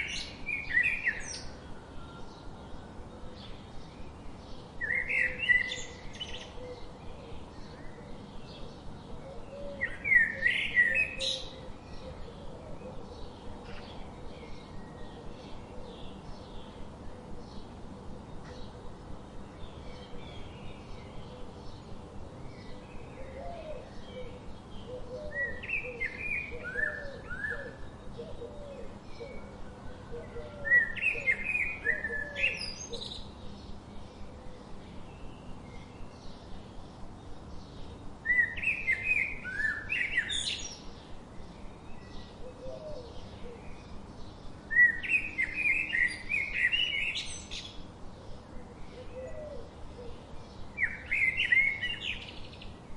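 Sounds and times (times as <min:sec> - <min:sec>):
faint background bird chipping: 0:00.0 - 0:52.9
songbirds chirping: 0:00.0 - 0:52.9.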